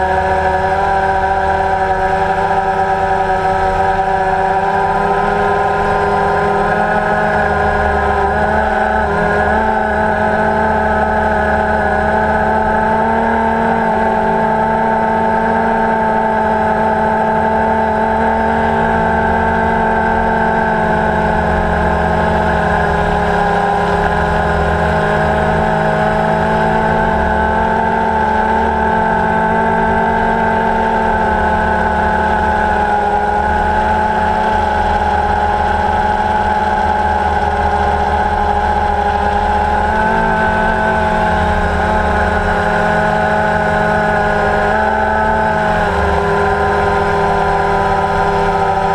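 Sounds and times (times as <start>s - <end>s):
drone propellers whirring: 0.0s - 48.9s.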